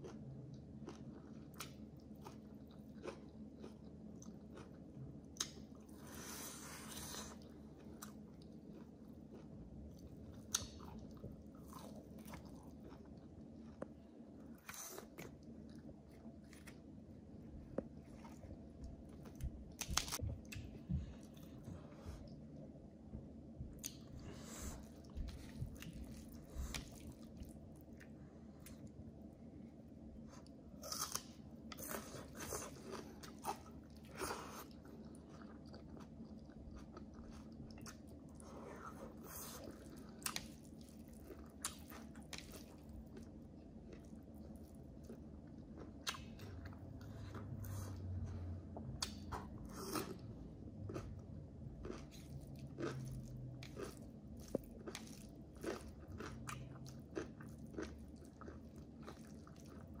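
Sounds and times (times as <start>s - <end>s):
person chewing crunchy food: 0.0s - 22.4s, 23.7s - 28.9s, 30.2s - 60.0s.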